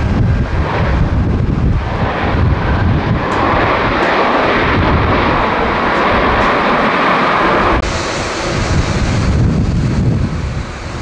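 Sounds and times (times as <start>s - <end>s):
jet engines running: 0.0s - 11.0s
wind gusts on microphone: 0.0s - 11.0s.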